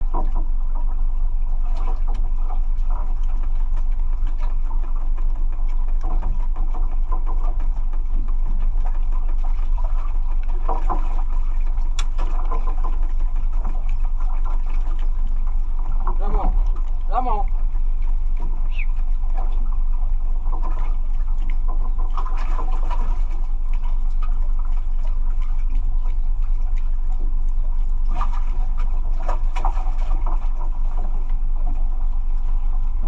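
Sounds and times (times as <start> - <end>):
faint clicks and knocks: 0.0 - 32.5
boat engine droning: 0.0 - 33.0.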